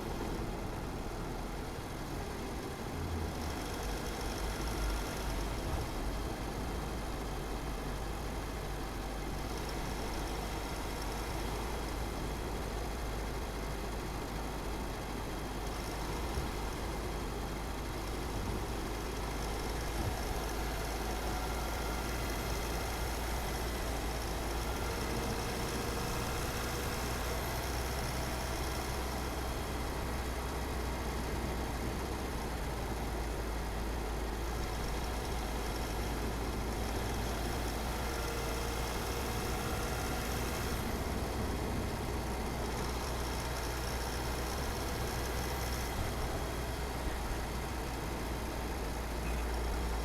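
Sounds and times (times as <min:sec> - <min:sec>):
car engine and tyres rumbling: 0:00.0 - 0:50.0.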